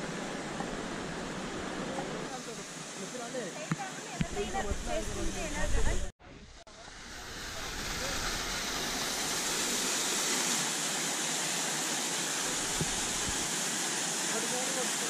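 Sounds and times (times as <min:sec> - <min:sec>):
fast-flowing water rushing: 0:00.0 - 0:05.6, 0:06.7 - 0:15.0.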